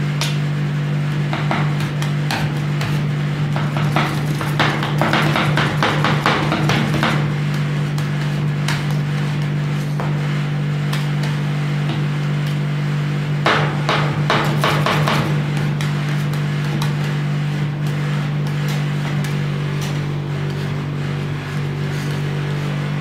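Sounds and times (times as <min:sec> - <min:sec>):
machine hum: 0:00.0 - 0:23.0
spatula scraping steel plate: 0:01.2 - 0:12.2, 0:14.1 - 0:23.0.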